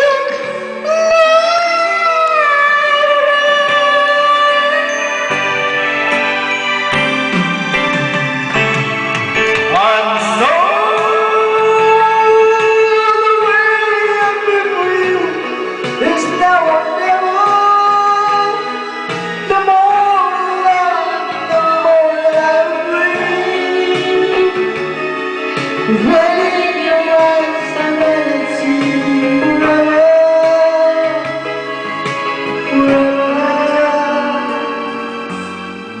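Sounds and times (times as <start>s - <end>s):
pop song with singing and guitar: 0.0s - 36.0s.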